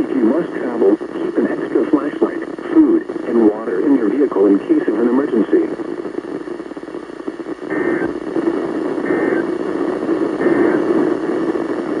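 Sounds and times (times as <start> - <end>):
radio receiver hiss: 0.0 - 12.0.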